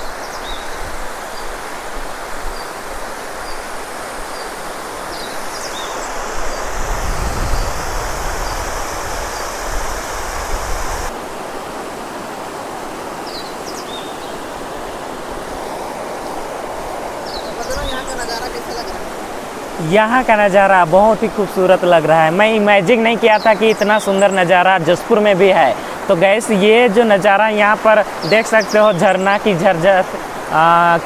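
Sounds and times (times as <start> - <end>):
waterfall rushing: 0.0 - 31.0
birds chirping: 3.4 - 11.1, 13.2 - 31.0.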